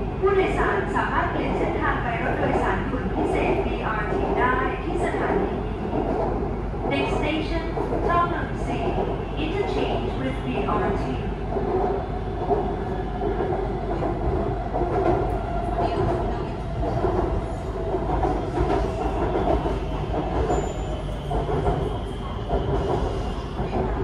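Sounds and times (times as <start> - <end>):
train running on elevated track: 0.0 - 24.0.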